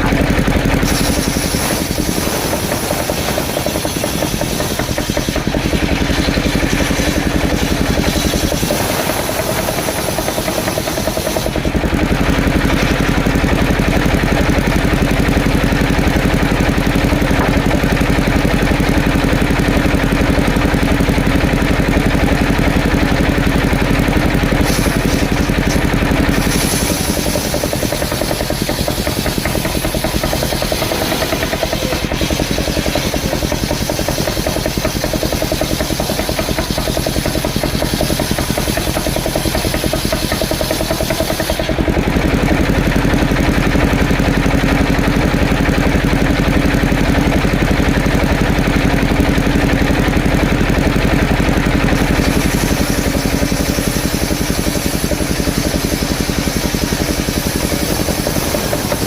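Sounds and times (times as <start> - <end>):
circular sawmill cutting logs: 0.0 - 59.0.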